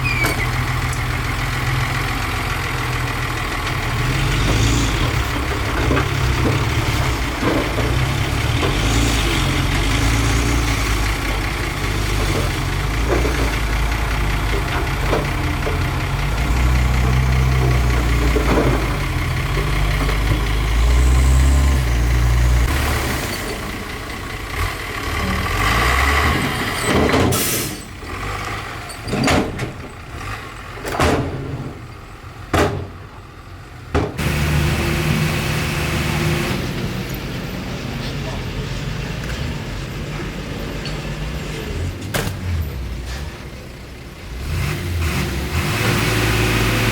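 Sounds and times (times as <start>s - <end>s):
heavy diesel engine rumbling: 0.0s - 46.9s.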